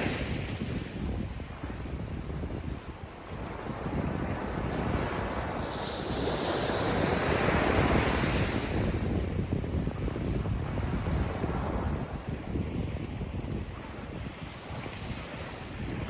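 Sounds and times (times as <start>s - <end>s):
ocean waves washing ashore: 0.0s - 16.0s
wind on microphone: 0.0s - 16.0s.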